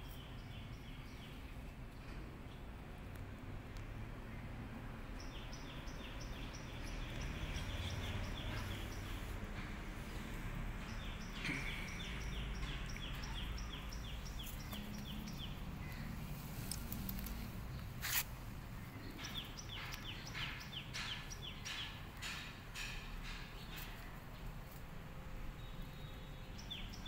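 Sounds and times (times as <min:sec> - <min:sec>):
bird chirping: 0:04.3 - 0:27.0.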